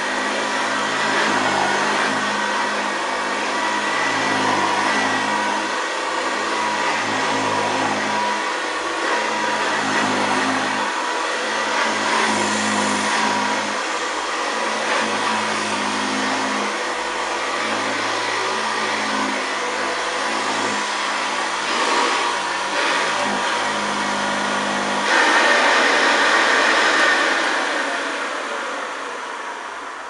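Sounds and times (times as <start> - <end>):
upright vacuum cleaner running: 0.0 - 30.0.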